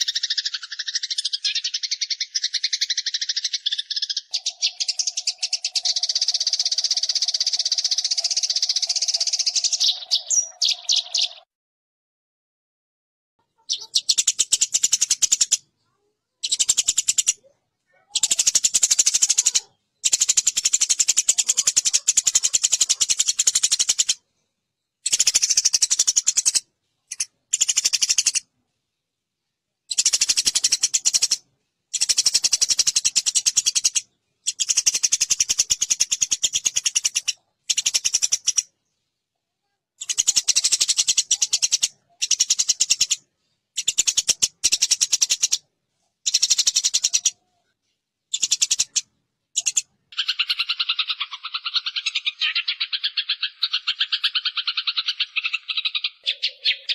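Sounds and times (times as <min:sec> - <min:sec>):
sparrows chattering harshly: 0:00.0 - 0:11.5, 0:13.4 - 0:24.2, 0:25.0 - 0:28.5, 0:29.9 - 0:39.1, 0:40.0 - 0:47.5, 0:48.3 - 0:56.9.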